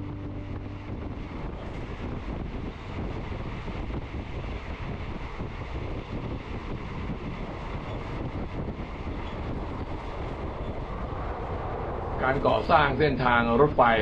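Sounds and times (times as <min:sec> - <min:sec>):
train rumbling: 0:00.0 - 0:14.0
wind rushing over microphone: 0:00.0 - 0:14.0.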